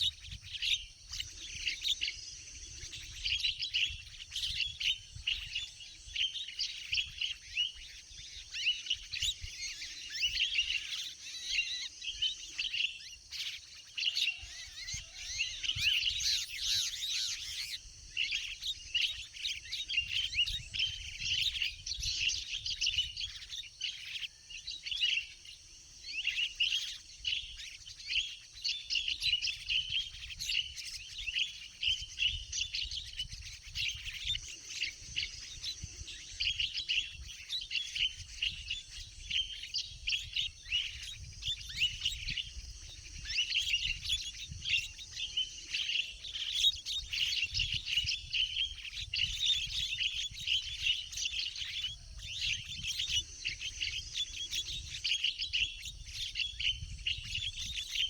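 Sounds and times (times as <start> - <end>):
birds chirping and chattering: 0.0 - 58.0.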